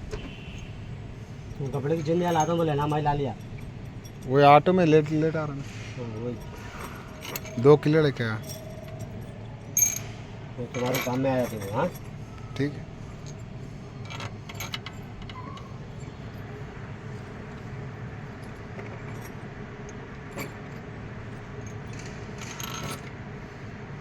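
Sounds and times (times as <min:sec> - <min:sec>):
low background hum: 0:00.0 - 0:24.0
light metallic clinks and jingles: 0:01.4 - 0:23.2.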